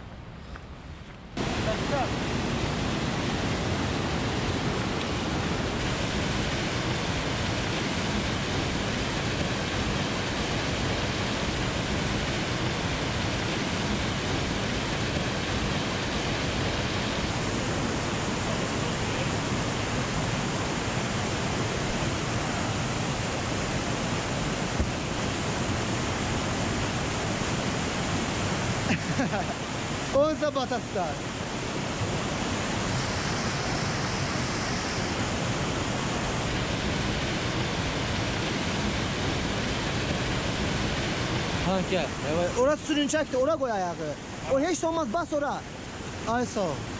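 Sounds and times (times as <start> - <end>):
water rushing over boulders: 1.4 - 46.9.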